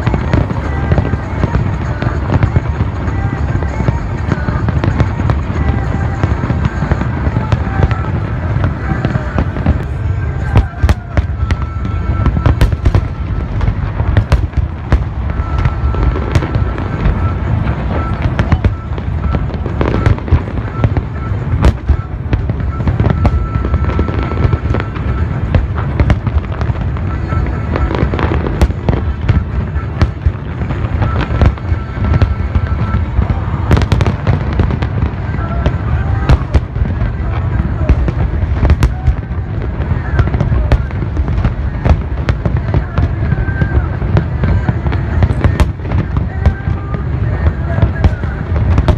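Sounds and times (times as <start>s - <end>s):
firework bangs and crackles: 0.0s - 48.9s
rumble of firework bursts: 0.0s - 48.9s.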